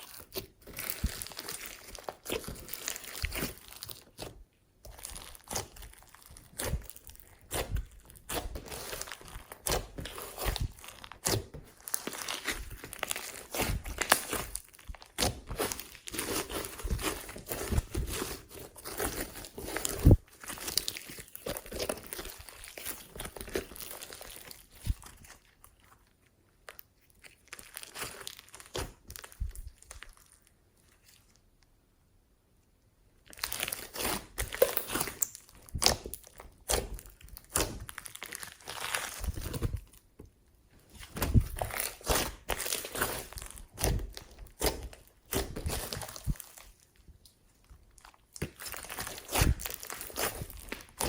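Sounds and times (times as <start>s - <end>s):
slime being squished by hand: 0.0s - 25.9s, 26.6s - 31.4s, 33.3s - 40.2s, 40.8s - 51.0s.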